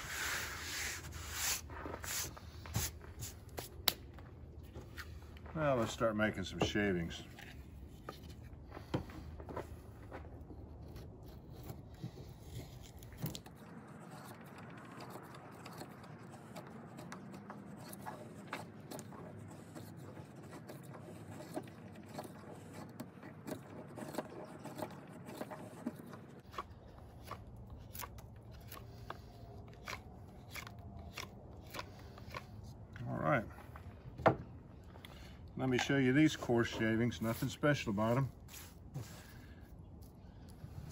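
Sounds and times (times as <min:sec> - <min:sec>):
knife scraping wood: 0:00.0 - 0:33.0, 0:33.6 - 0:40.9.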